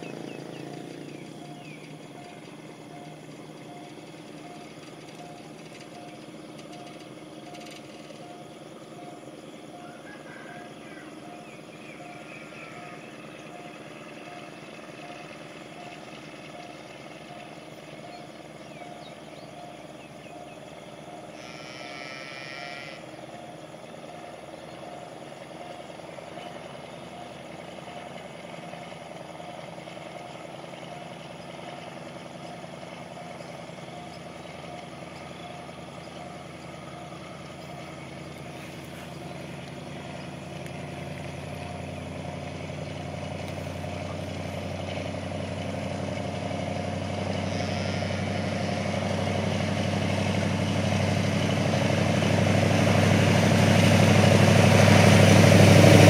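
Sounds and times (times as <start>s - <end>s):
distant diesel locomotive drone: 0.0s - 56.0s
level crossing warning tone: 0.0s - 56.0s.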